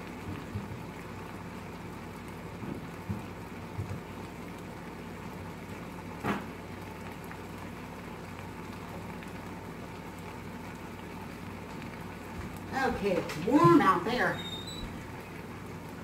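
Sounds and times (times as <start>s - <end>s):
faint steady hum: 0.0s - 16.0s
food sizzling in a frying pan: 0.0s - 16.0s.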